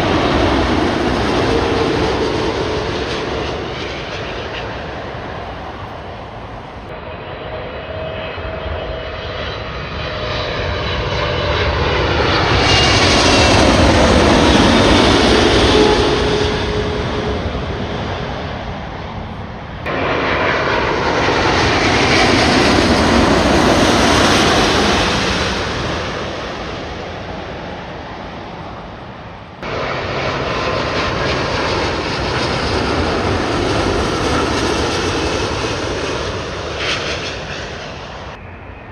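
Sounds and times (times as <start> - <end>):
jet airliner roar passing overhead: 0.0 - 38.9.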